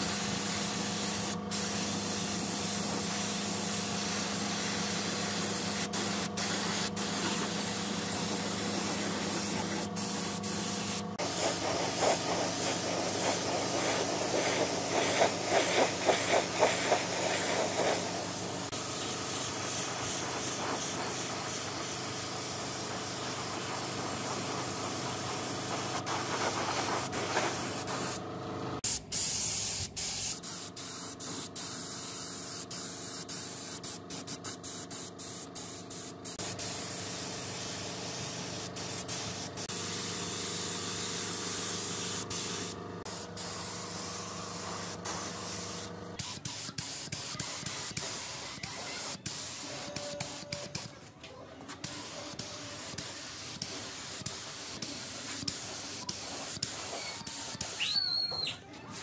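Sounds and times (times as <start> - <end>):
spray gun hissing: 0.0 - 28.2, 28.8 - 50.8, 51.8 - 57.8.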